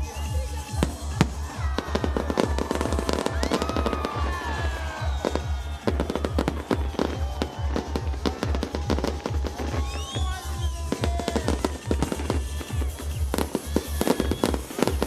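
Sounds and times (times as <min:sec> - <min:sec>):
fireworks bursting and crackling: 0:00.0 - 0:15.0
loud music with pounding bass: 0:00.0 - 0:15.0.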